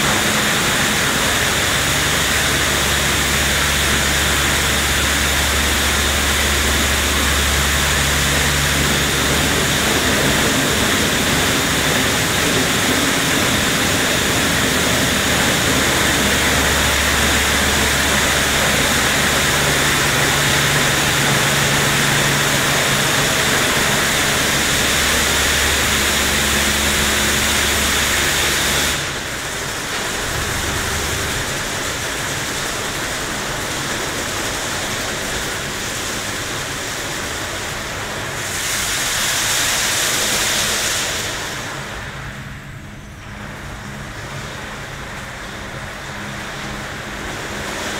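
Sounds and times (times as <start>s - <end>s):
low motor hum: 0.0s - 38.9s, 39.5s - 47.9s
car wash brushes and spray hissing: 0.0s - 47.9s.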